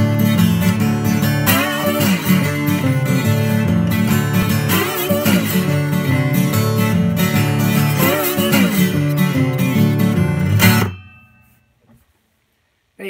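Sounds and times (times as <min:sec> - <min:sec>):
acoustic guitar music: 0:00.0 - 0:12.2.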